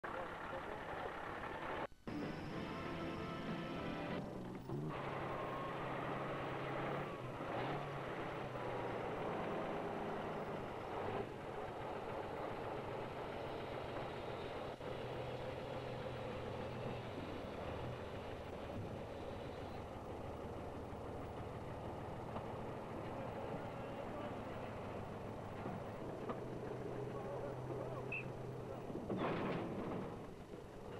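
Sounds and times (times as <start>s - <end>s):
truck engine running under load: 0.0s - 30.9s.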